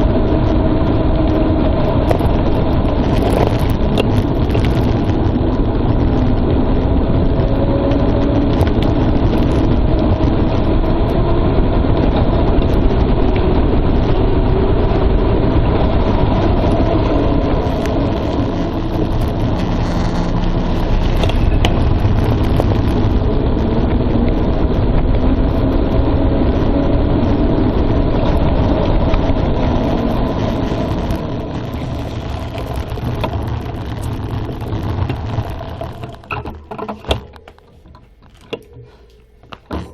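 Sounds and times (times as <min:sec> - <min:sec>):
bike tyres and frame rattling: 0:00.0 - 0:39.9
wind rumble: 0:00.0 - 0:39.9.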